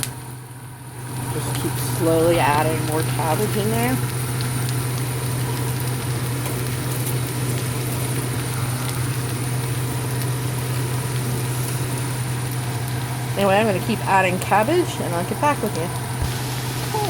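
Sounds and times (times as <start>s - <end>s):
cabbage sizzling in a frying pan: 0.0s - 17.0s
low motor hum: 0.0s - 17.0s.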